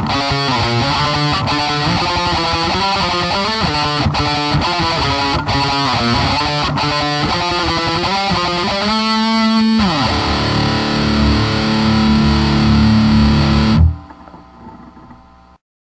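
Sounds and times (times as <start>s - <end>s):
distorted electric guitar: 0.0s - 15.4s
faint amplifier hum: 0.0s - 15.6s.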